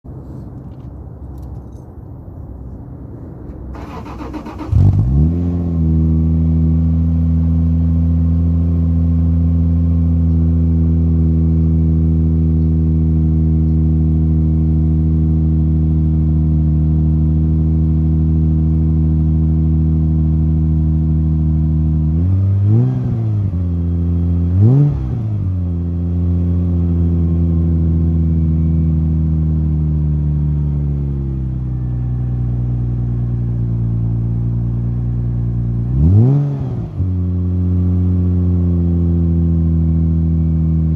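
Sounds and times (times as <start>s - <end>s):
car engine idling and revving: 0.1s - 40.9s.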